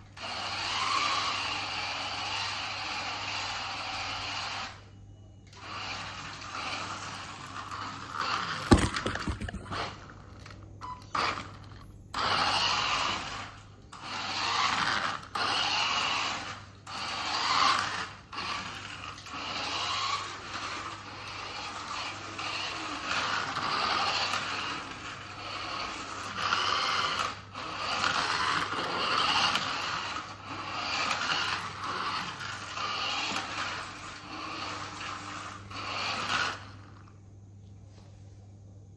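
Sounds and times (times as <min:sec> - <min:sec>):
toy car electric motor: 0:00.0 - 0:37.1.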